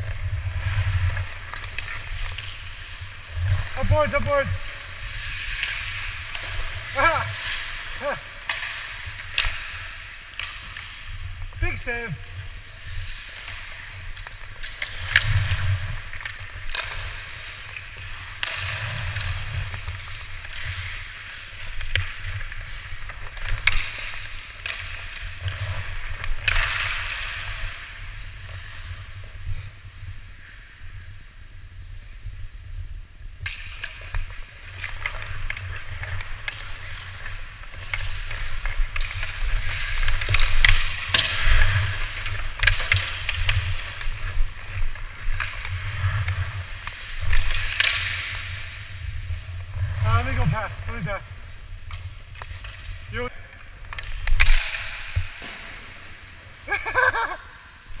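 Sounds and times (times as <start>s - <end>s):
hockey sticks and puck clacking: 0.0s - 58.0s
skates scraping ice: 0.0s - 58.0s.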